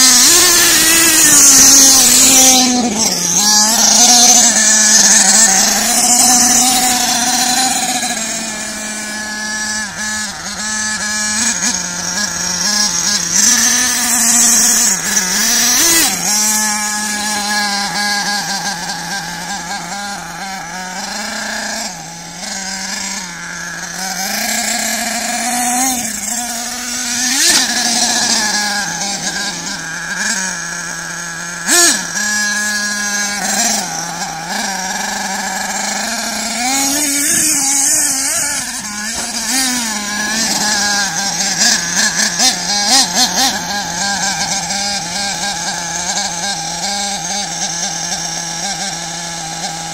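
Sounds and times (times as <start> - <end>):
model car motor drone: 0.0 - 49.9.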